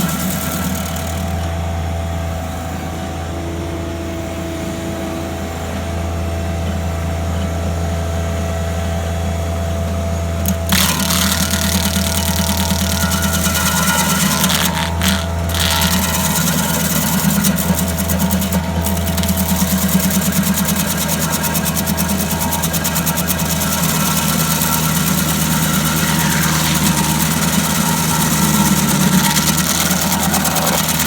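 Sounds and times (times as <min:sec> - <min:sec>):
engine running with rattle: 0:00.0 - 0:31.0.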